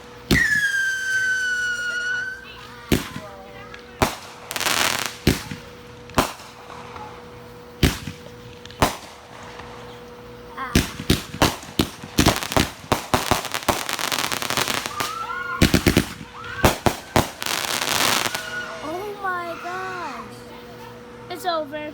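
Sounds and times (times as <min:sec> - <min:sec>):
fireworks bangs and crackling: 0:00.0 - 0:21.2.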